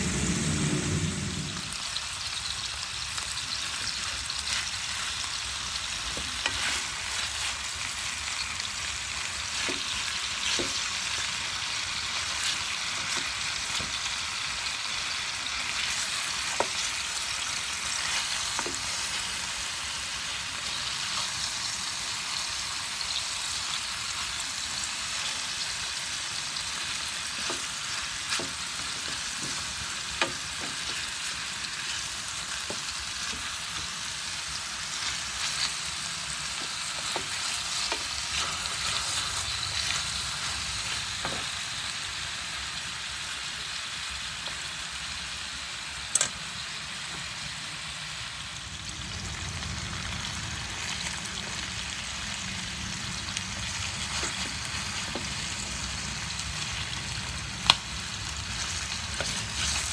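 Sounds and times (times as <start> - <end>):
meat frying in hot oil: 0.0 - 59.9.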